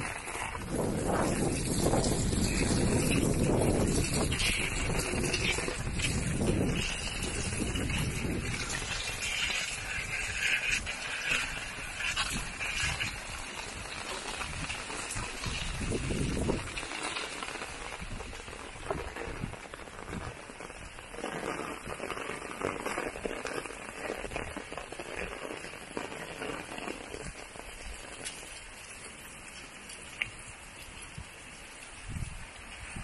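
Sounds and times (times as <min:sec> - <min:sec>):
heavy rain: 0:00.0 - 0:33.0.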